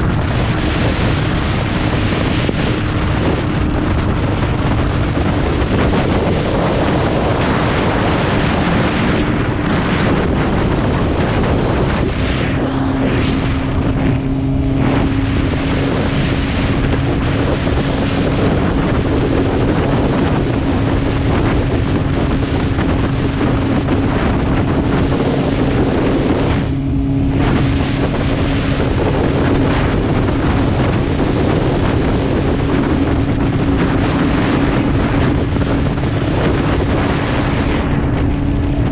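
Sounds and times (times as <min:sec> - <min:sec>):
motorcycle engine drone: 0:00.0 - 0:38.9
wind buffeting microphone: 0:00.0 - 0:38.9.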